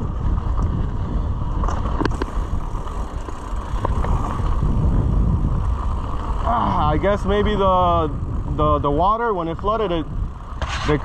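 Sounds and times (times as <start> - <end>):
bike rattles and clicks: 0.0 - 11.0
bike tyres rumbling on dirt: 0.0 - 11.0
wind on microphone: 0.0 - 11.0.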